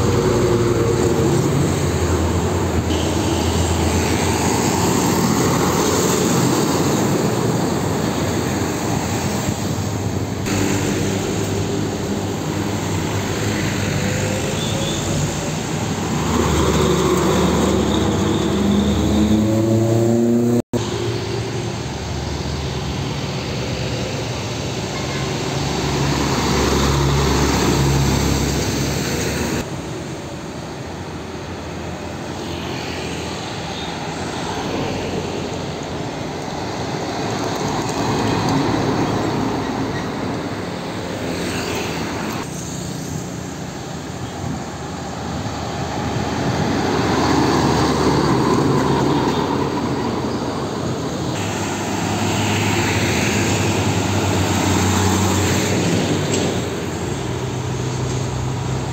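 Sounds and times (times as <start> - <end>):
road traffic passing: 0.0 - 58.9.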